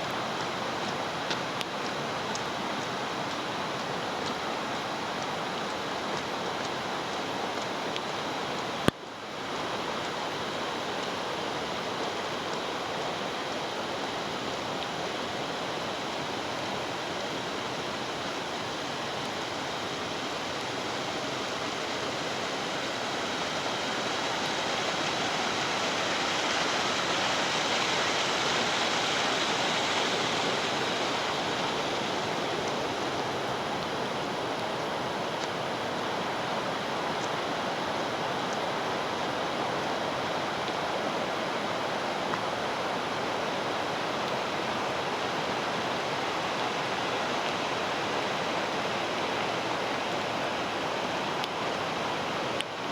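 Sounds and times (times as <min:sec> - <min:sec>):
rushing stream water: 0:00.0 - 0:52.9.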